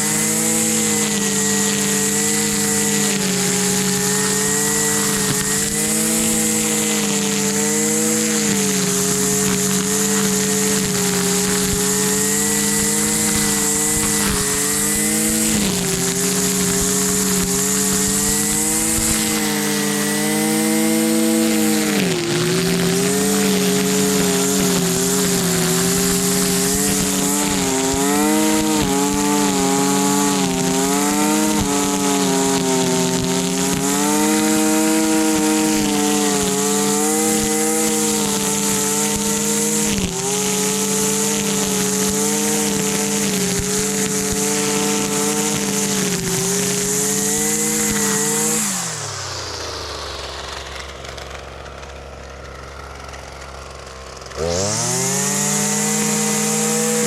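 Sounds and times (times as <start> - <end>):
string trimmer engine running: 0.0 - 57.0.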